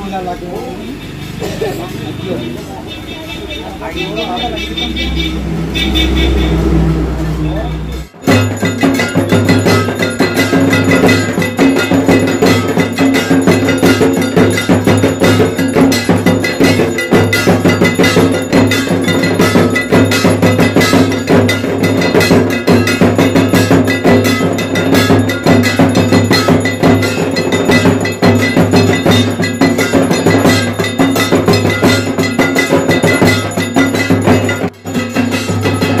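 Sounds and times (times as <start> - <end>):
bells and metal percussion clanging: 0.0 - 36.0.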